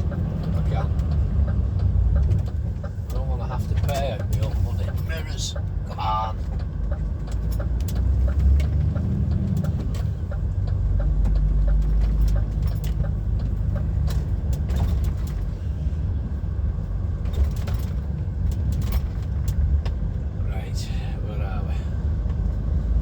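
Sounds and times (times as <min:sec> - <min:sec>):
road noise on wet road: 0:00.0 - 0:23.0
truck diesel engine running: 0:00.0 - 0:23.0.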